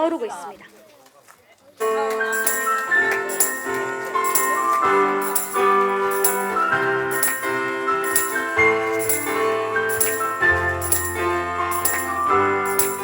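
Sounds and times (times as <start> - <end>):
jingling percussion: 1.8 - 13.0
keyboard chords and melody: 1.8 - 13.0.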